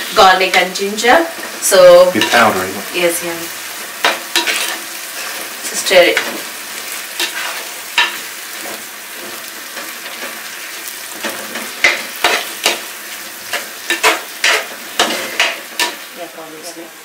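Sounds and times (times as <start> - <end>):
frying sizzle: 0.0 - 17.0.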